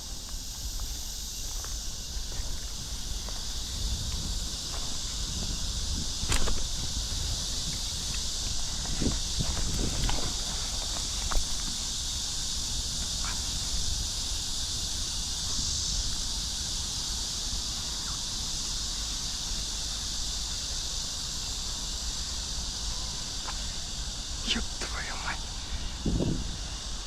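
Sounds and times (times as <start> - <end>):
steady high hiss: 0.0 - 27.0.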